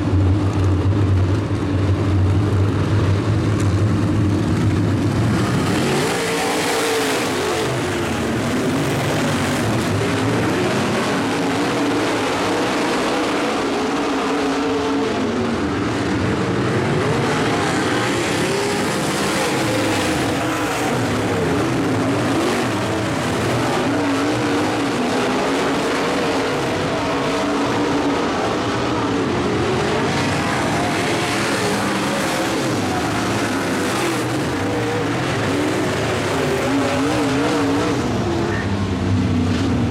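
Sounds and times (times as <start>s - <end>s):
race car engines running hard: 0.0s - 39.9s.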